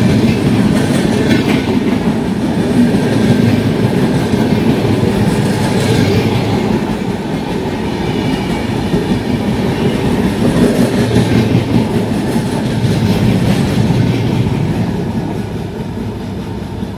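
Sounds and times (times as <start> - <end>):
clickety-clack over rail joints: 0.0 - 16.9
train wheels rumbling on rails: 0.0 - 16.9.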